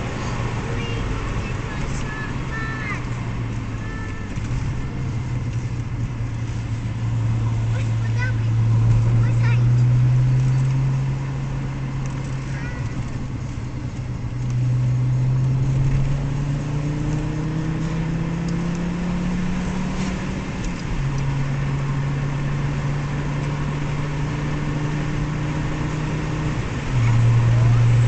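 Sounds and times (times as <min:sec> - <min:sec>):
car engine accelerating: 0:00.0 - 0:28.0
road noise: 0:00.0 - 0:28.0.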